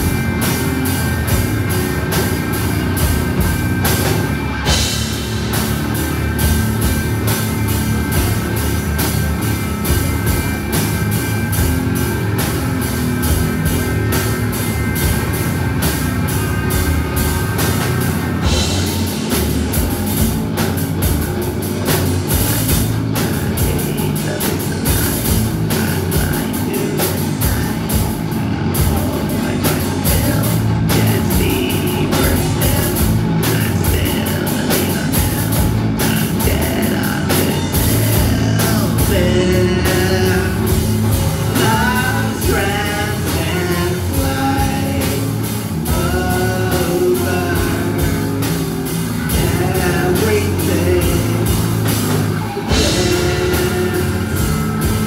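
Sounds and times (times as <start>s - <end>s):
live heavy rock band: 0.0s - 55.0s.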